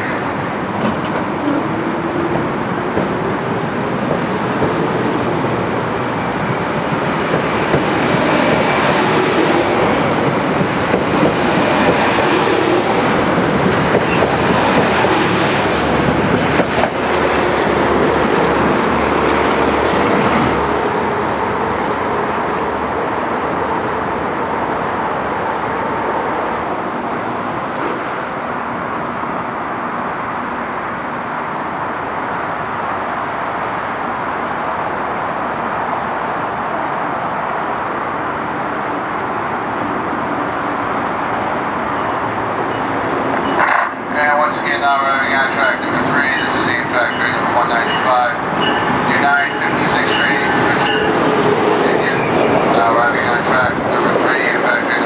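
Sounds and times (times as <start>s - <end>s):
electric train rumbling: 0.0s - 55.0s.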